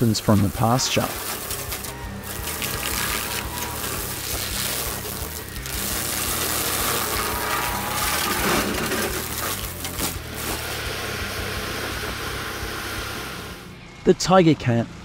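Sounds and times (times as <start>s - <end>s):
forestry mulcher shredding brush: 0.0s - 13.8s.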